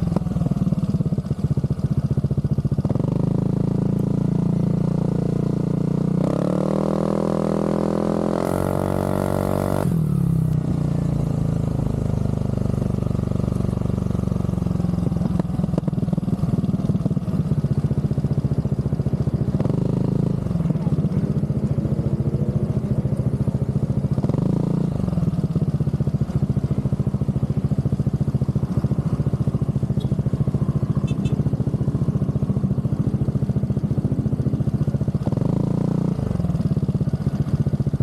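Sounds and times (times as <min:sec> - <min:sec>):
scooter engine idling and revving: 0:00.0 - 0:38.0.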